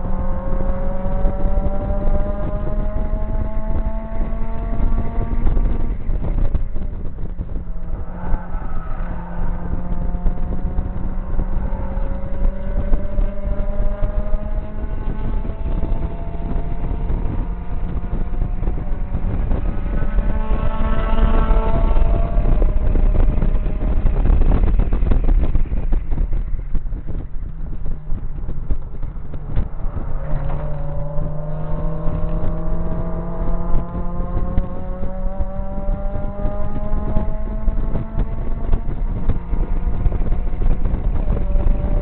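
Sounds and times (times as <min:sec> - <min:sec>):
car engine accelerating hard: 0:00.0 - 0:42.0
wind buffeting and road noise: 0:00.0 - 0:42.0.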